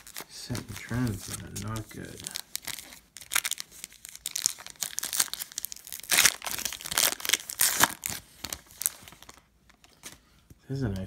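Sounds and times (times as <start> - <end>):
foil pack tearing and crinkling: 0.0 - 9.4.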